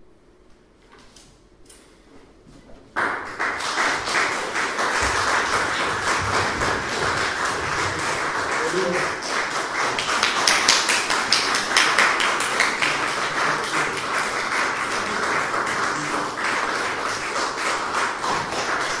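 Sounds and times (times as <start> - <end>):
audience applauding: 3.0 - 19.0.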